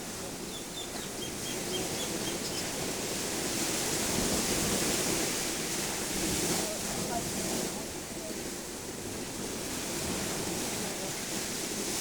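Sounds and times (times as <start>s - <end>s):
ocean surf washing on beach: 0.0s - 12.0s
wind: 0.0s - 12.0s.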